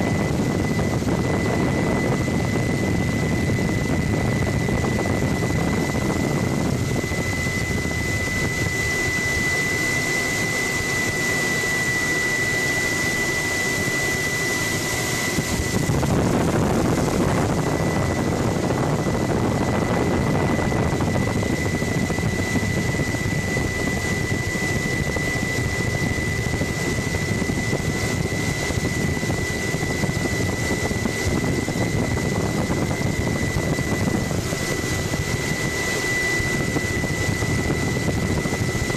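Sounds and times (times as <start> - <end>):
helicopter engine and rotor noise: 0.0 - 38.9
high-pitched whine: 0.0 - 38.9.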